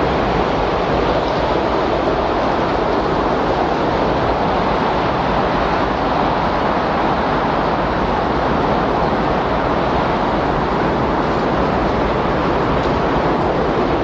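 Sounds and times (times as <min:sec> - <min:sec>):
strong wind rushing: 0:00.0 - 0:14.0.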